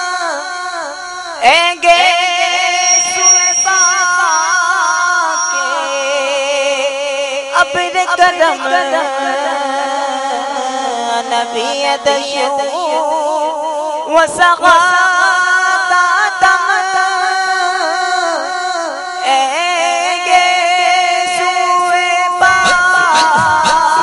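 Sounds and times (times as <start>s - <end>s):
men singing devotional song: 0.0s - 24.0s.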